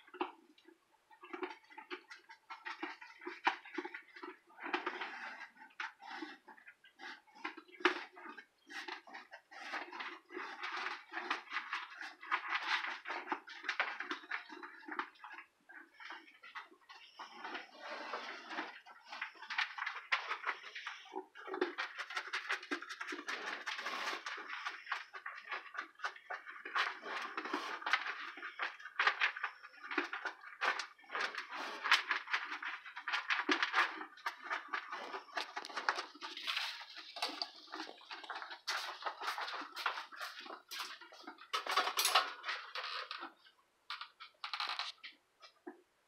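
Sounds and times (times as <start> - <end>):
goat crunching feed: 0.0 - 45.8.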